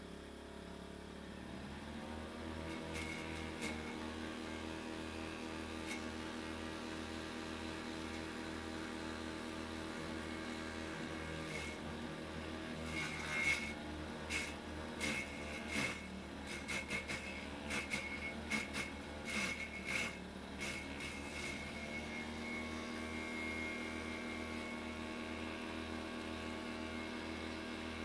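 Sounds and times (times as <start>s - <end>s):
motor humming steadily: 0.0s - 28.0s.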